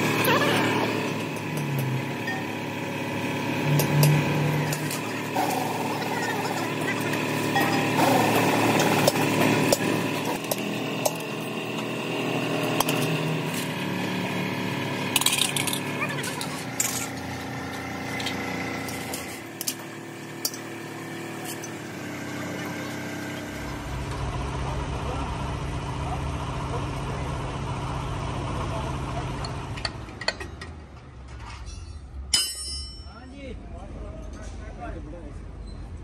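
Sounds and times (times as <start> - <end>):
engine running: 0.0 - 33.1
low engine rumble: 0.0 - 36.0.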